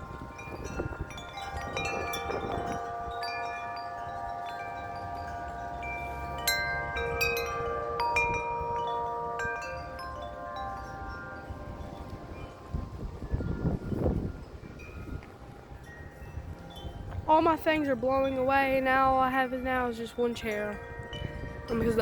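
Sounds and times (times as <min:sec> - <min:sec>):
wind chimes ringing: 0:00.0 - 0:22.0
wind rumble on microphone: 0:00.0 - 0:22.0.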